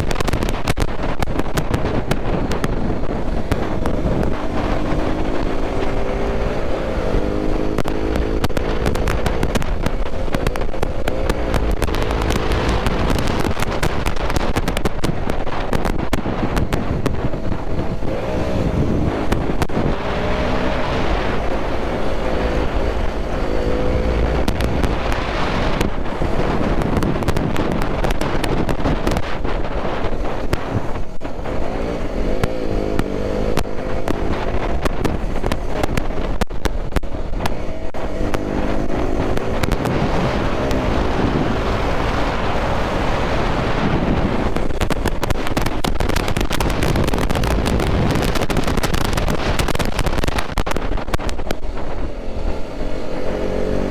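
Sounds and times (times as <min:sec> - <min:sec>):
motorcycle engine accelerating: 0:00.0 - 0:53.9
wind buffeting microphone: 0:00.0 - 0:53.9.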